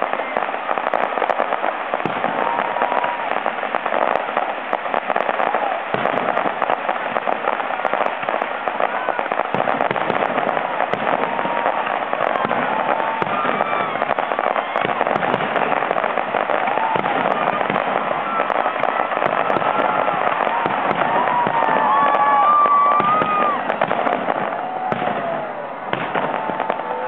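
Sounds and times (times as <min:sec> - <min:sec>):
fireworks crackling and popping: 0:00.0 - 0:27.0.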